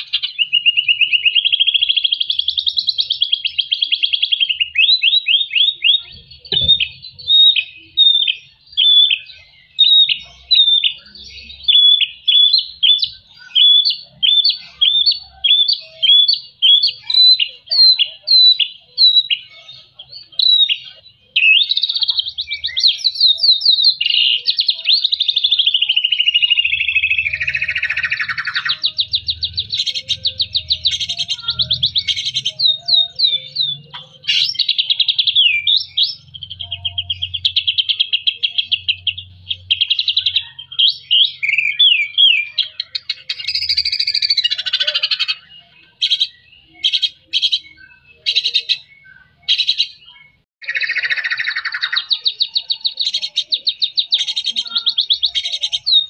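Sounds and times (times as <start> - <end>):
bird singing sharp notes and trills: 0.0 - 56.0.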